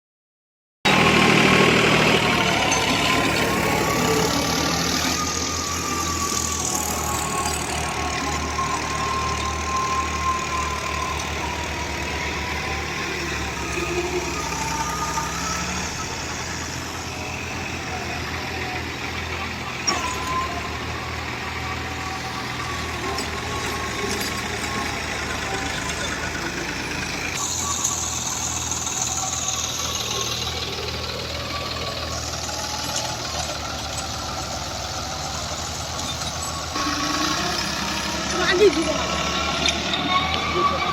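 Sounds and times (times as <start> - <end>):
thin wavering whine: 0.9 - 40.9
tractor diesel engine running: 0.9 - 40.9.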